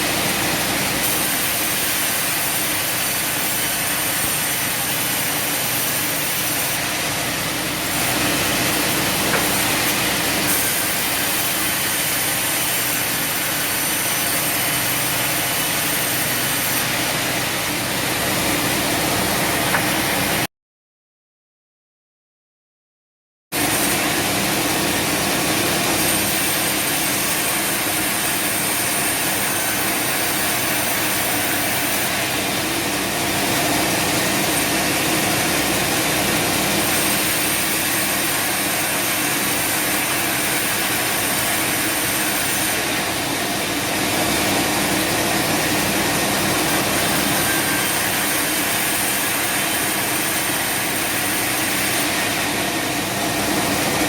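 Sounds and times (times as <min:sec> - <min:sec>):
sawmill machinery humming: 0:00.0 - 0:20.5, 0:23.6 - 0:54.0.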